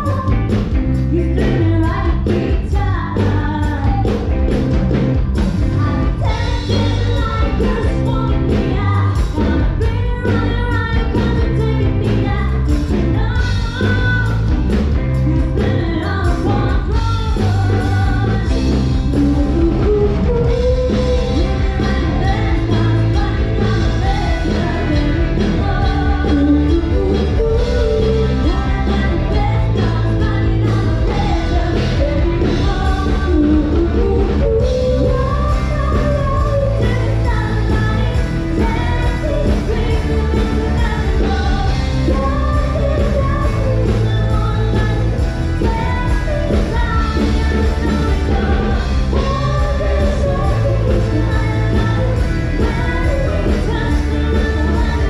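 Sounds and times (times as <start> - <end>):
live rock band playing: 0.0 - 55.0
person singing: 0.0 - 55.0.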